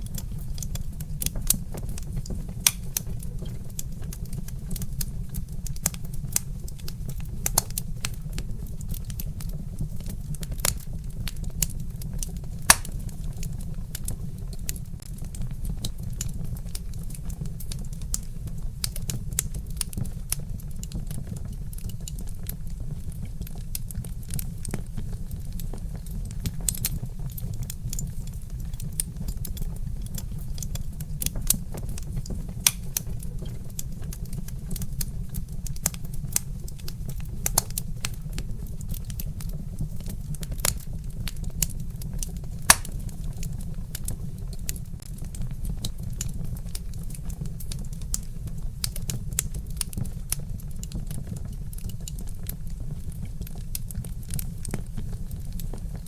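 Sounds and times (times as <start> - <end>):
fire rumbling: 0.0 - 56.0
wood fire crackling: 0.0 - 56.0.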